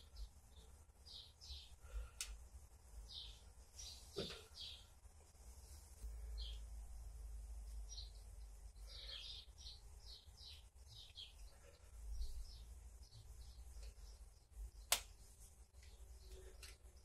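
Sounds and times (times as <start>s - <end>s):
small bird chirping: 0.0s - 2.2s, 2.9s - 5.0s, 5.6s - 17.0s.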